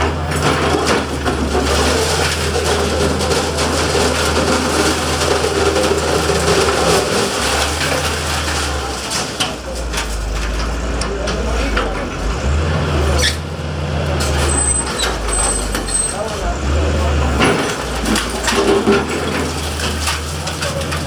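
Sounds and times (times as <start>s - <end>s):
debris falling: 0.0s - 21.0s
diesel engine droning: 0.0s - 21.0s
masonry and wood crunching: 0.0s - 21.0s.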